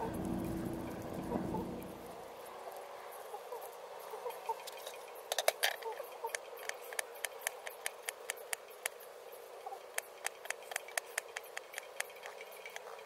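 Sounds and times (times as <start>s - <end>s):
faint steady hiss: 0.0s - 13.0s
small fire crackling: 0.0s - 13.0s.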